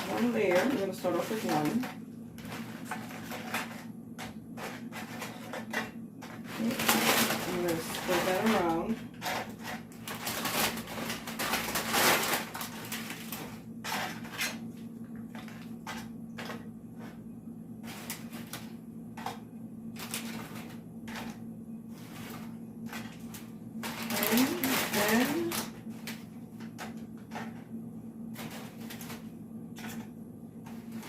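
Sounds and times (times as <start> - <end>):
chips crackling and rustling: 0.0 - 17.2, 17.8 - 27.6, 28.4 - 31.0.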